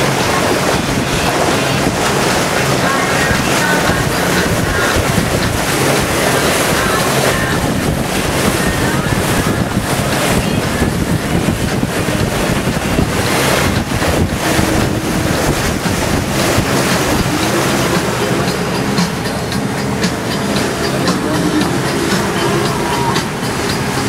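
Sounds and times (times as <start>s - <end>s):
boat engine running: 0.0s - 24.0s
boat hull cutting through water: 0.0s - 24.0s
wind buffeting microphone: 0.0s - 24.0s.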